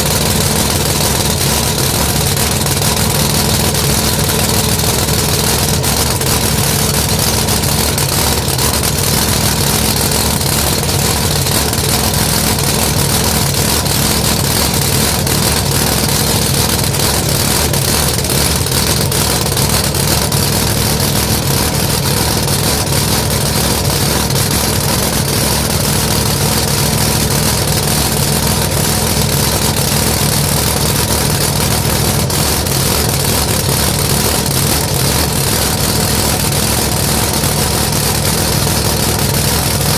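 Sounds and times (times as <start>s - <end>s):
loud drag racing engine idling: 0.0s - 39.9s.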